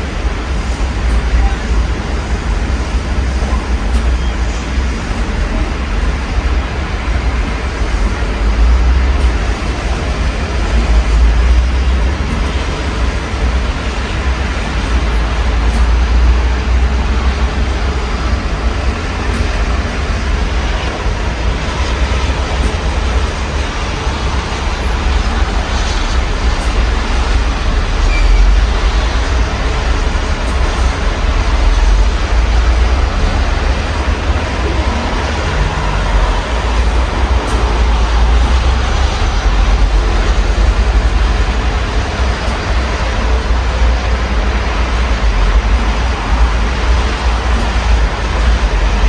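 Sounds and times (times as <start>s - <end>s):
deep low rumble: 0.0s - 49.0s
rain falling: 0.0s - 49.0s.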